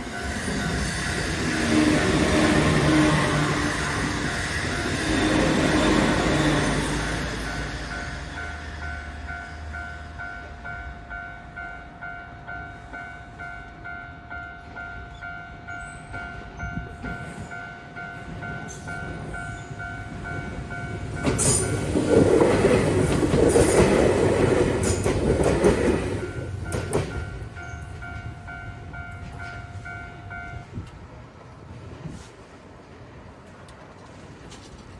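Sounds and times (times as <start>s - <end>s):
railroad crossing bell ringing: 0.0s - 31.1s
train passing with wheel clatter: 0.0s - 34.9s.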